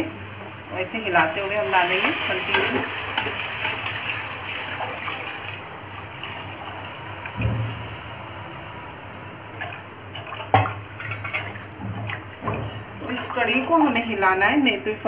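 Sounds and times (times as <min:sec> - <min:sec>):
liquid pouring and splashing: 0:01.4 - 0:14.0.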